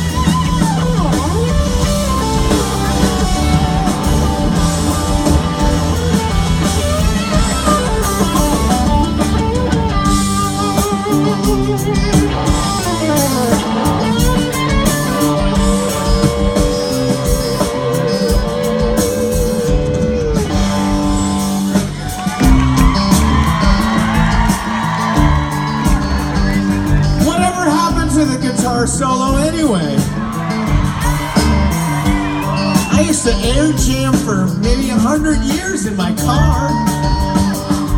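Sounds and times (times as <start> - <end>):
electric guitar solo: 0.0 - 34.6, 35.4 - 37.9
bass guitar: 0.0 - 37.9
drums: 0.0 - 37.9.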